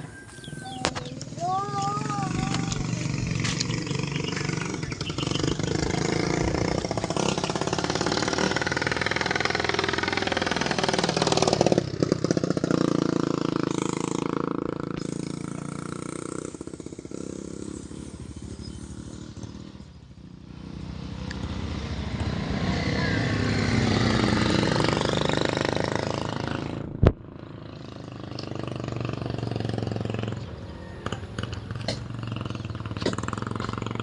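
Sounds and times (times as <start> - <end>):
small petrol engine running: 0.0 - 21.1, 22.2 - 34.0.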